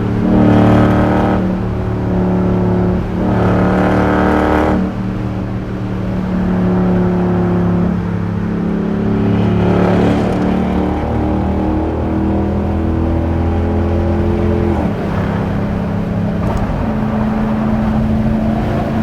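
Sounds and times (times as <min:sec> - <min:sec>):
car exhaust droning: 0:00.0 - 0:19.0.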